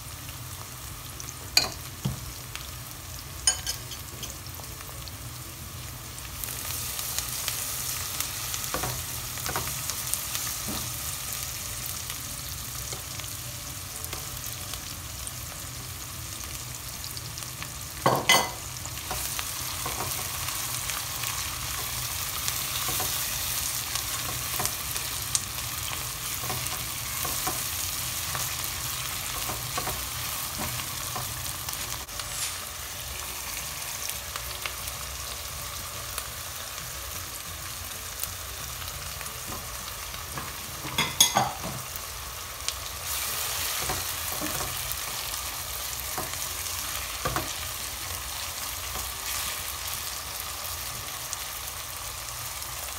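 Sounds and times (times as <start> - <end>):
onions sizzling in oil: 0.0 - 52.9.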